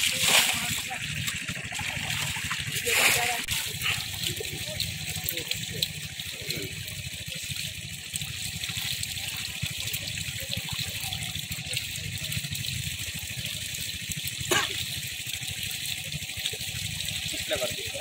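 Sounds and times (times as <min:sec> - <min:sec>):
water gushing into a pit: 0:00.0 - 0:18.0.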